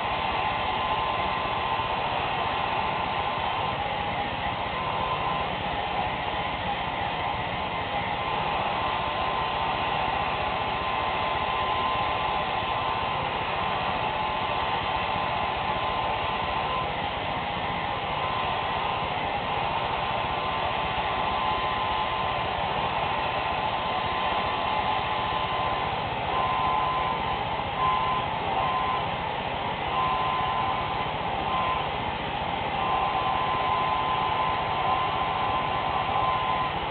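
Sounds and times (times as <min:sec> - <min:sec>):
hair dryer running: 0:00.0 - 0:36.9.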